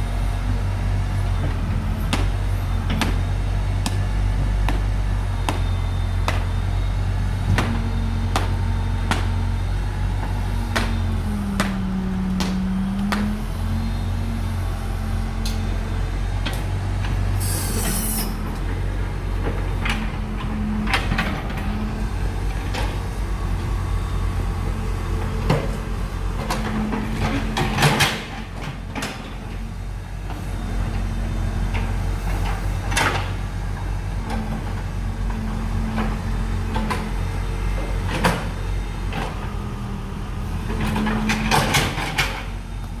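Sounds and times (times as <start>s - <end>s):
diesel engine revving under load: 0.0s - 43.0s.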